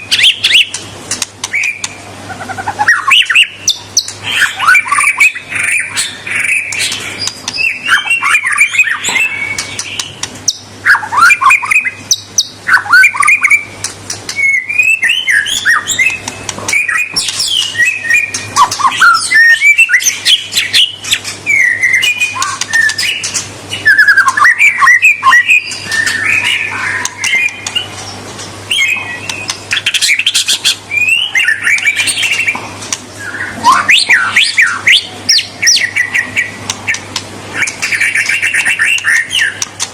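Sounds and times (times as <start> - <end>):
bird singing whistled song: 0.0 - 0.8, 1.5 - 27.9, 28.7 - 32.6, 33.2 - 39.7.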